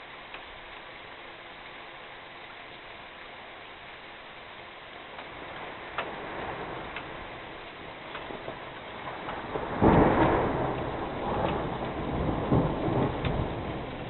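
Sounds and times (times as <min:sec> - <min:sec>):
heavy rain hissing: 0:00.0 - 0:14.0
raindrops ticking nearby: 0:00.0 - 0:14.0.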